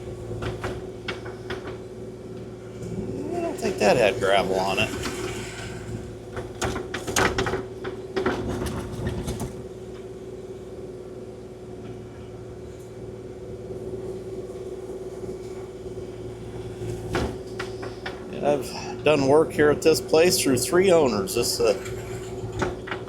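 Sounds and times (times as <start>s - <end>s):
excavator running with whine: 0.0s - 23.0s.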